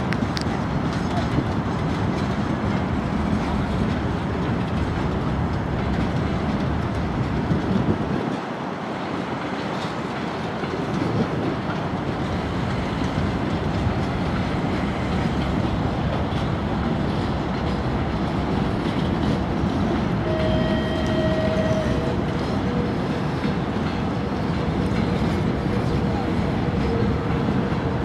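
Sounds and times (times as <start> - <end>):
freight train rumble: 0.0 - 28.0
wheels clattering over rail joints: 0.0 - 28.0.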